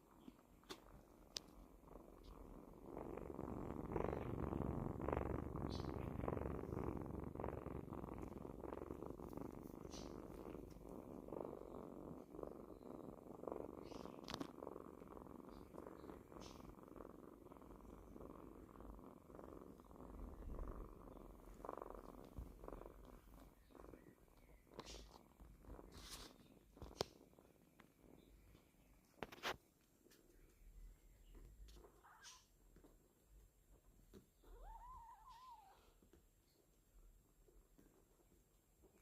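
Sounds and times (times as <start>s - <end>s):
kittens purring: 0.0s - 39.0s.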